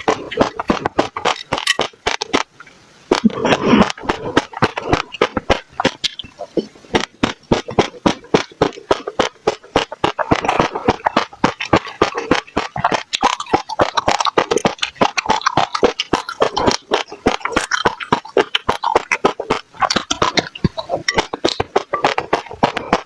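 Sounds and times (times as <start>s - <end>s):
seeds crunching while chewing: 0.0s - 2.5s, 3.1s - 23.0s
wet mouth sounds: 0.0s - 23.0s.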